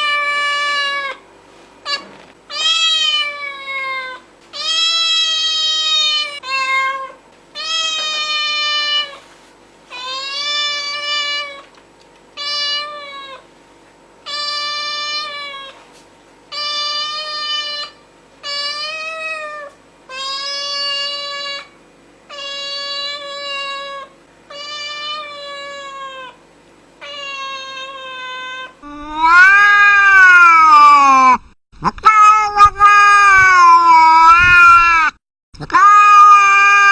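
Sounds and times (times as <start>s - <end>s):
cats meowing: 0.0s - 1.2s, 1.9s - 9.2s, 9.9s - 11.8s, 12.4s - 13.5s, 14.3s - 15.8s, 16.5s - 21.7s, 22.3s - 26.4s, 27.0s - 36.9s.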